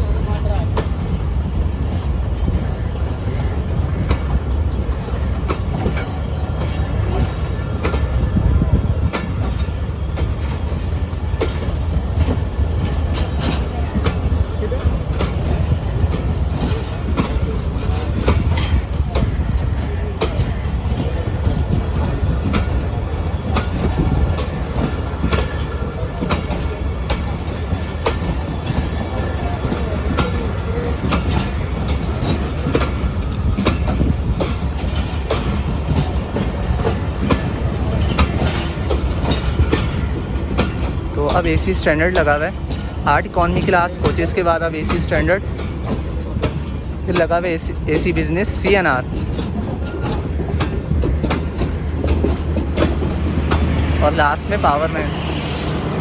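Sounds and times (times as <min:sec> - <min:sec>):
train coaches rumbling past: 0:00.0 - 0:56.0
wheels clicking over rail joints: 0:00.0 - 0:56.0.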